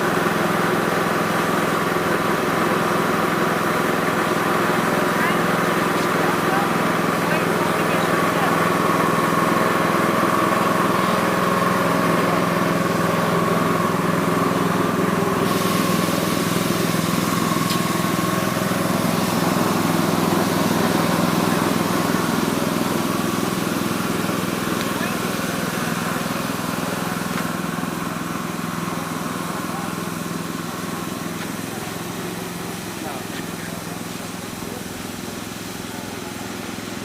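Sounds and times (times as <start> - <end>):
machine running: 0.0 - 37.0
voices in the background: 3.9 - 36.6.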